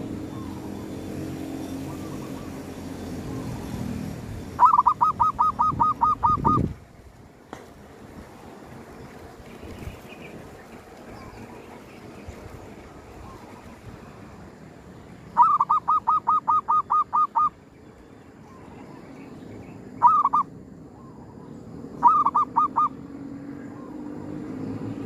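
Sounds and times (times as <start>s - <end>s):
dove calling: 0.0s - 6.9s, 8.7s - 24.2s.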